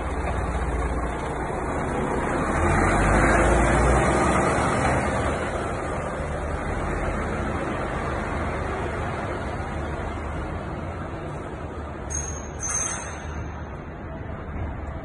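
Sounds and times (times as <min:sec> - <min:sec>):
lorry diesel engine rumbling: 0:00.0 - 0:15.0.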